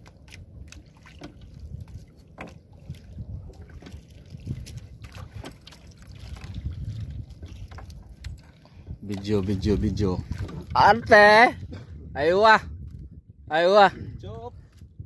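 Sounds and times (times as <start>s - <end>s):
water around boat: 0.0s - 15.0s
wind on microphone: 1.3s - 15.0s.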